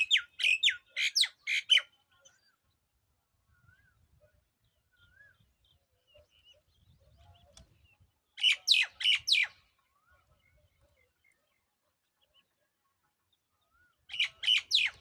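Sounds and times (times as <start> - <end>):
faint soft chirps: 1.9 - 15.0.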